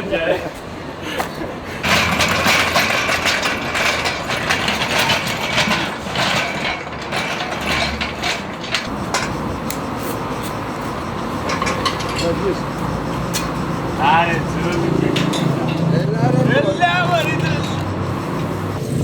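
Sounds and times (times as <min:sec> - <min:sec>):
metal tools knocking: 0:01.8 - 0:19.0.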